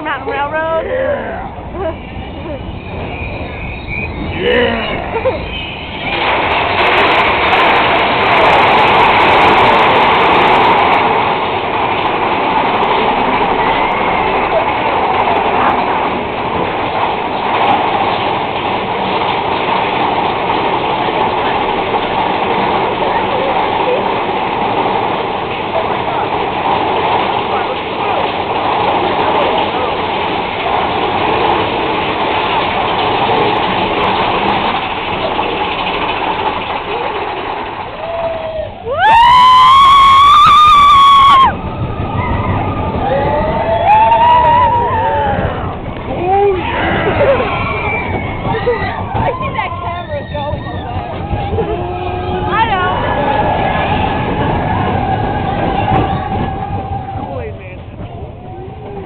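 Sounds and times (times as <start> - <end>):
roller coaster rumbling on track: 0.0 - 59.0.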